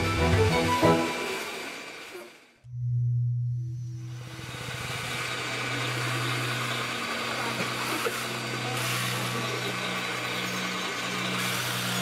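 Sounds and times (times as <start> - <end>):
model loader motor whine: 0.0 - 12.0.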